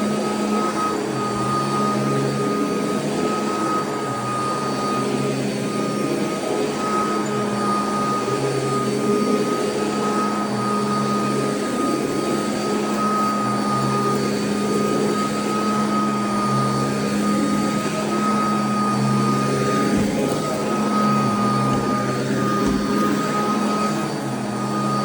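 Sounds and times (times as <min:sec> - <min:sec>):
vacuum cleaner running on carpet: 0:00.0 - 0:25.0.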